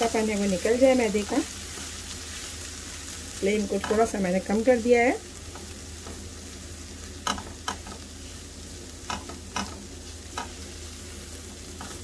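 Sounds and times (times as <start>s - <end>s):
faint frying sizzle: 0.0s - 12.0s.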